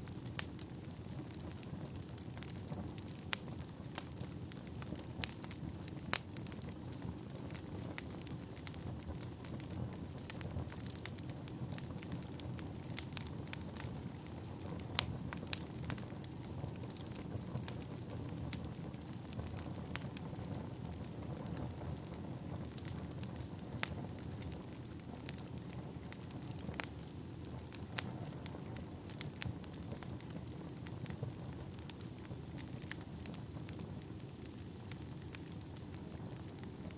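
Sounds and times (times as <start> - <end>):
fire crackles and pops: 0.0 - 36.9
firewood fire rumbling: 0.0 - 36.9.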